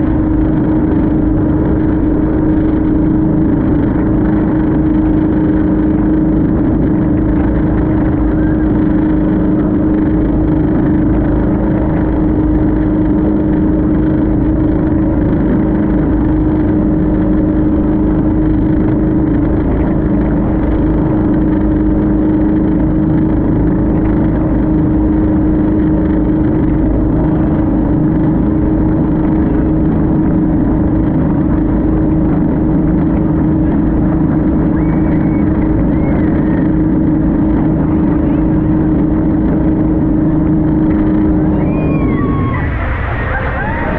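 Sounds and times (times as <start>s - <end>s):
motorboat engine drone: 0.0s - 43.9s.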